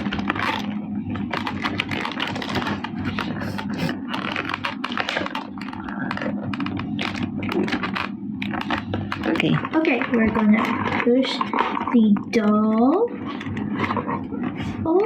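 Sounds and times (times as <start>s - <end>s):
plastic packaging crinkling and clicking: 0.0s - 15.0s.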